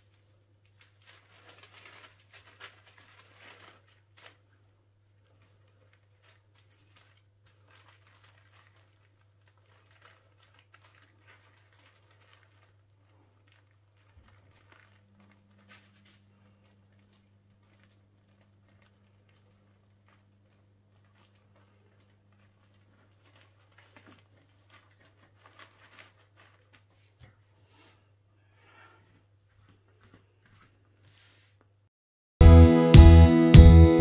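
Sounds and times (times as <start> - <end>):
parchment and towel rustling: 0.0 - 31.8.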